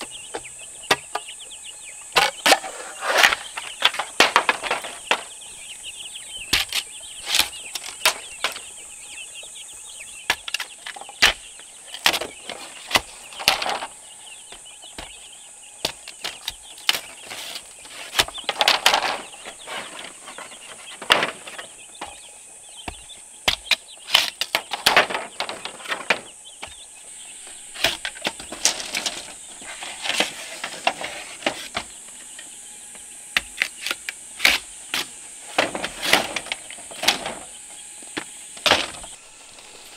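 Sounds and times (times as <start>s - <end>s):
chickens clucking: 0.0s - 39.9s
steady high hiss: 0.0s - 39.9s.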